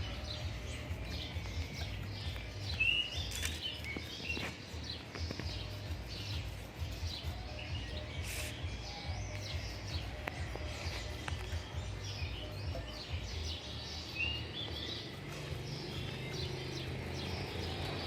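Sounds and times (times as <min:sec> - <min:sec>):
birds chirping and singing: 0:00.0 - 0:18.0.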